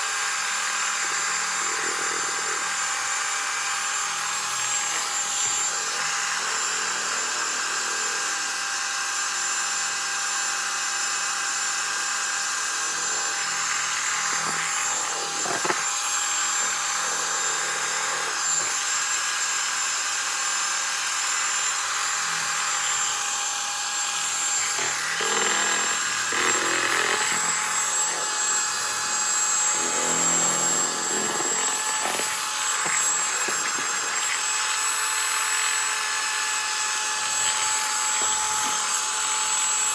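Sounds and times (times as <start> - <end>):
electric hand mixer whining: 0.0 - 39.9.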